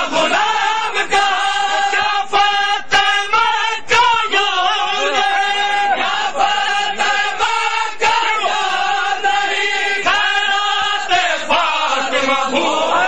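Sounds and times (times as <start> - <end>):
men chanting together: 0.0 - 13.0.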